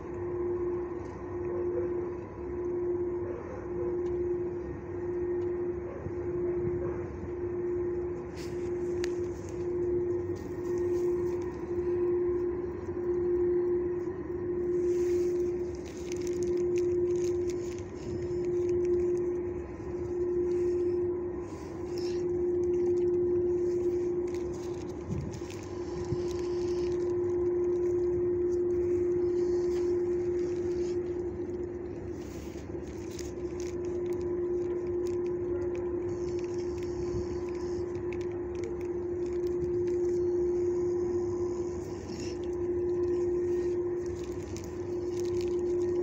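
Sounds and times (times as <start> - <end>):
low rumbling noise: 0.0 - 46.0
steady mechanical hum: 0.0 - 46.0.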